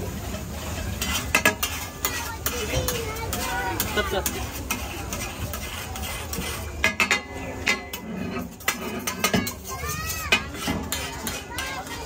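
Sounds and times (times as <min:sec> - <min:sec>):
metal clanking on a griddle: 0:00.1 - 0:12.0.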